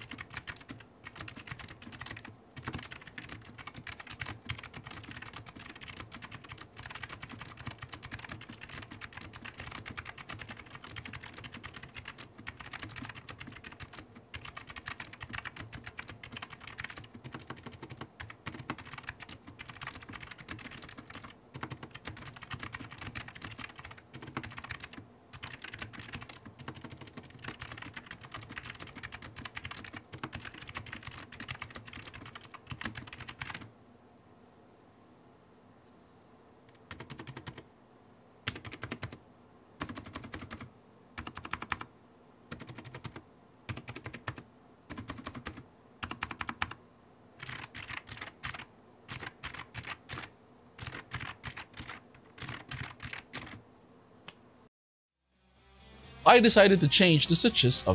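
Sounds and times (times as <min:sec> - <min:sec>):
mechanical keyboard typing: 0:00.0 - 0:33.7, 0:36.7 - 0:37.6, 0:38.4 - 0:39.2, 0:39.8 - 0:41.9, 0:42.5 - 0:46.8, 0:47.4 - 0:53.6.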